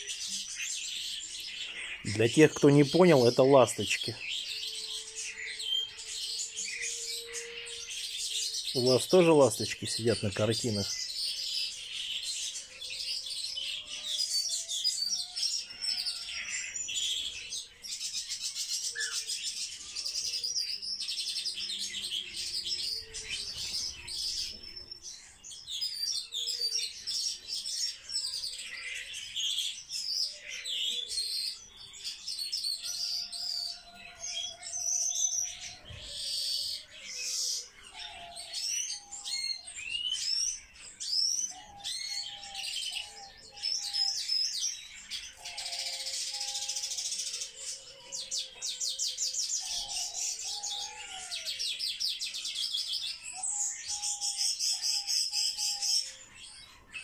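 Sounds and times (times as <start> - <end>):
small birds twittering and chirping: 0.0 - 57.0.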